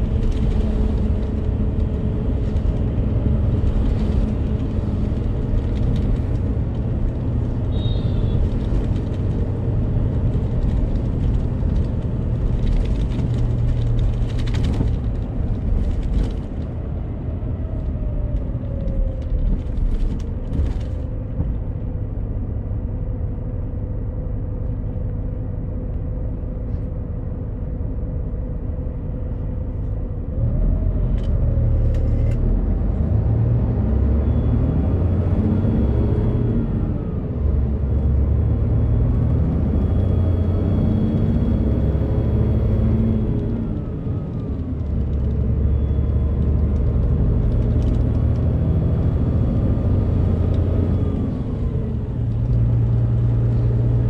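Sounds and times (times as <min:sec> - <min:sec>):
bus engine and tyres rumbling: 0:00.0 - 0:54.0.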